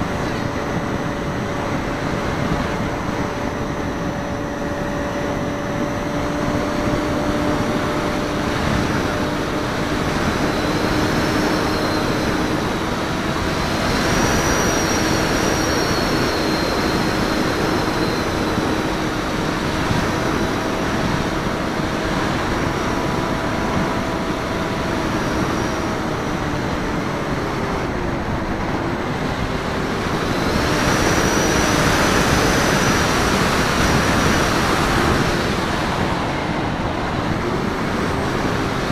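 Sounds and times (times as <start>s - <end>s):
electric motor and propeller whine: 0.0s - 38.9s
wind rushing over microphone: 0.0s - 38.9s.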